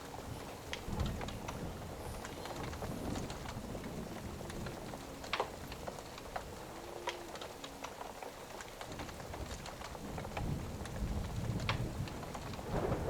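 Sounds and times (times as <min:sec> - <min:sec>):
steady rain: 0:00.0 - 0:13.0
wood fire crackling: 0:00.0 - 0:13.0.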